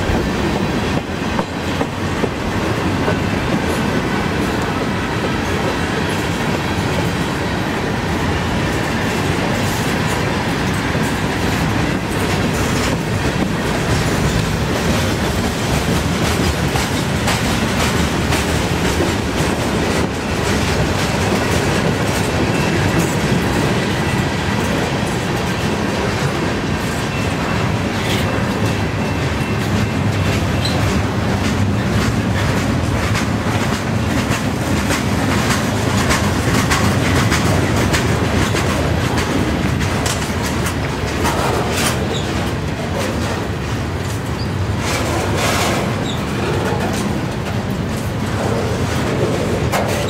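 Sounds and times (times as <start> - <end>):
steel wheels rumbling on rail: 0.0 - 50.0
wheels clanking over rail joints: 0.0 - 50.0.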